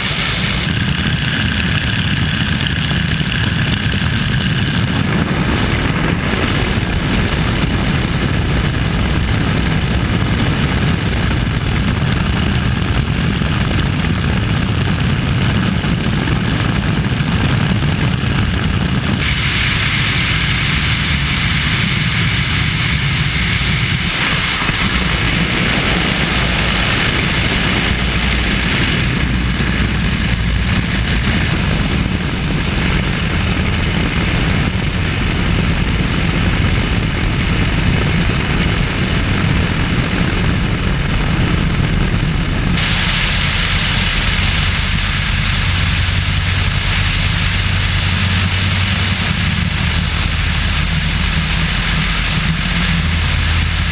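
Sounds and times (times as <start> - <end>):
biplane engine and propeller: 0.0 - 53.9
wind rush on microphone: 0.0 - 53.9.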